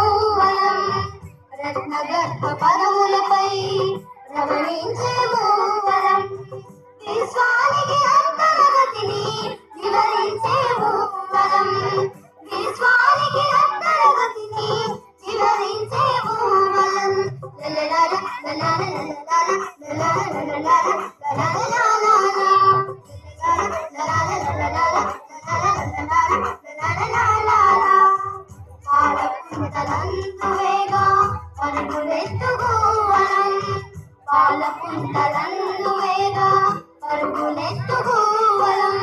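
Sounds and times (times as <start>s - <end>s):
child singing: 0.0s - 39.0s.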